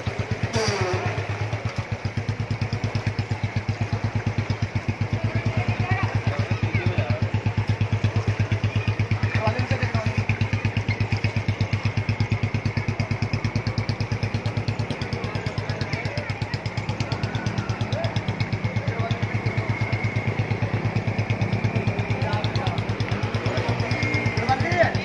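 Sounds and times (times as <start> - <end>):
motorcycle engine running at low revs: 0.0 - 25.0.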